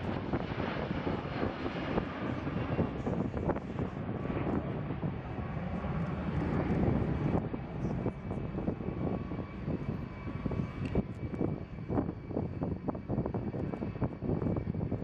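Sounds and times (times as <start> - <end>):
faint steady engine whine: 0.0 - 15.0
jet engines rumbling: 0.0 - 15.0.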